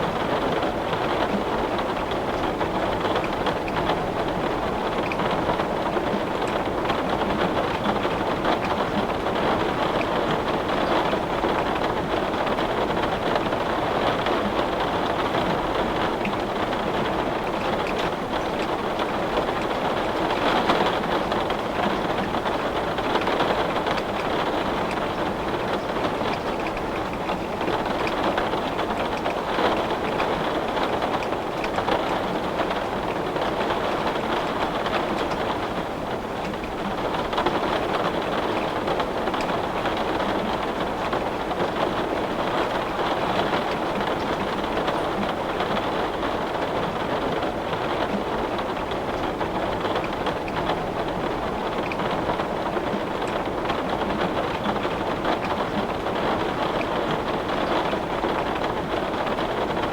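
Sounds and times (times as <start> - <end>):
heavy rain on window: 0.0 - 59.9.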